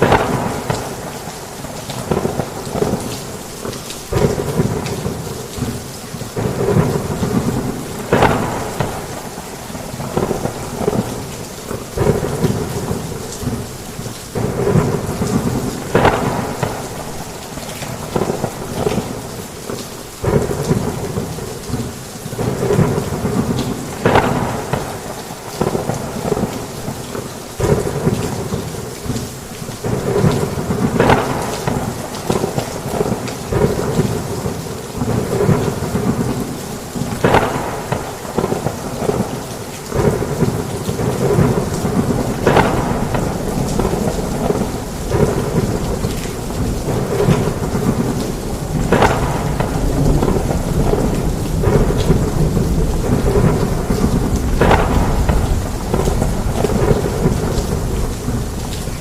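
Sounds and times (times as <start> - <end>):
heavy rain on a roof: 0.0 - 59.0
thunder rumbling: 0.0 - 59.0.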